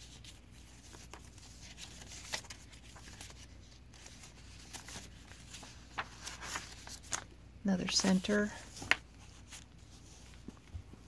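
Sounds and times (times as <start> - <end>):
pages turning: 0.0 - 11.0
paper rustling: 0.0 - 11.0.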